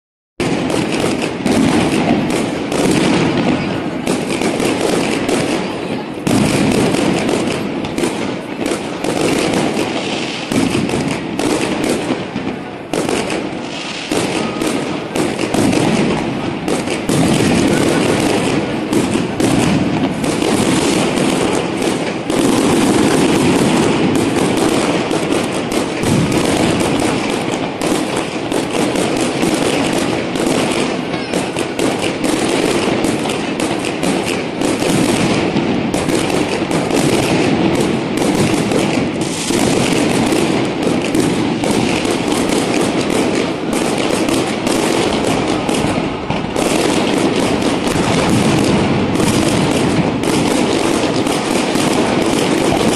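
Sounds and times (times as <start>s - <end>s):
fireworks and firecrackers crackling: 0.4s - 52.9s.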